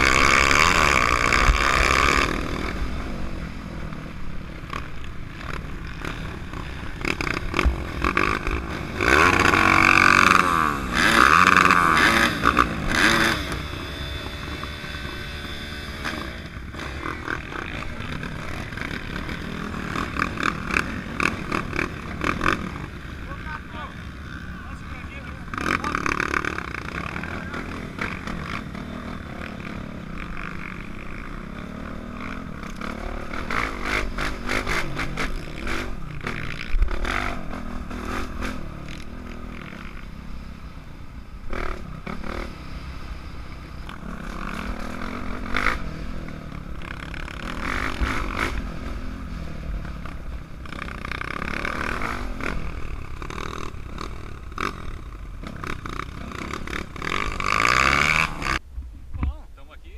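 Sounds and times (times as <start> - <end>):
dirt bike engine revving: 0.0 - 58.6.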